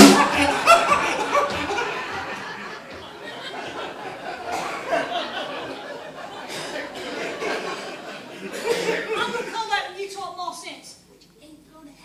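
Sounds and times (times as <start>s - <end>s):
audience laughing: 0.0s - 9.9s.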